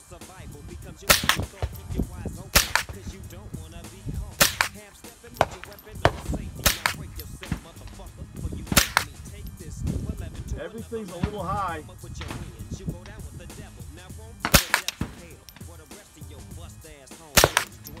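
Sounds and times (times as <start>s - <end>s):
rifle shots cracking: 0.8s - 16.6s, 17.2s - 18.0s.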